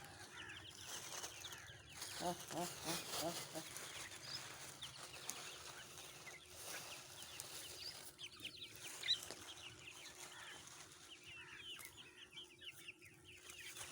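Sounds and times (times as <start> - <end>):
chickens calling: 0.0 - 13.9.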